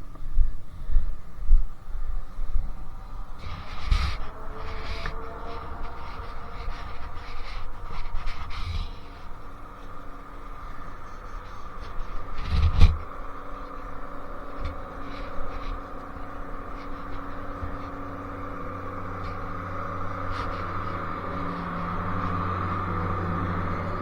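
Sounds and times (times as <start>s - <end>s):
two-stroke engine running: 2.6s - 24.0s.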